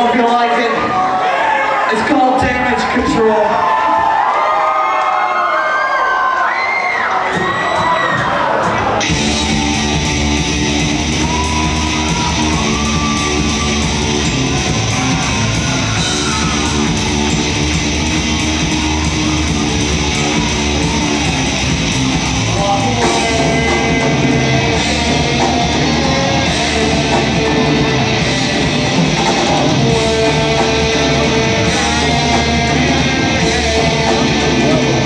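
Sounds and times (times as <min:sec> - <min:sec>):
heavy metal band playing: 0:00.0 - 0:01.2, 0:01.9 - 0:03.7, 0:07.2 - 0:35.0.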